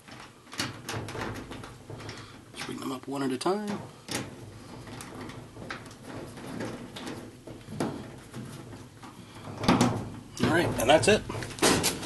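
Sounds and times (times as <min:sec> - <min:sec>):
metallic clatter: 0:00.0 - 0:12.0.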